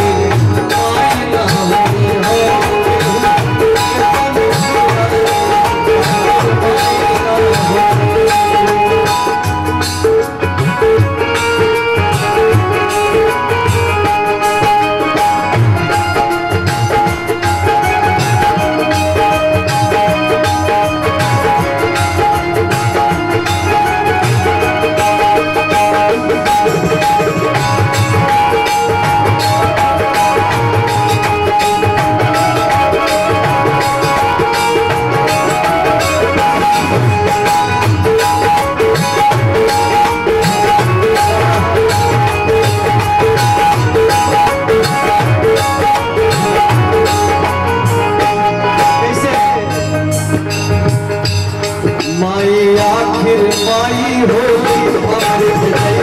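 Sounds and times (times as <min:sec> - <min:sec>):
drum and percussion beat: 0:00.0 - 0:56.0
keyboard melody: 0:00.0 - 0:56.0.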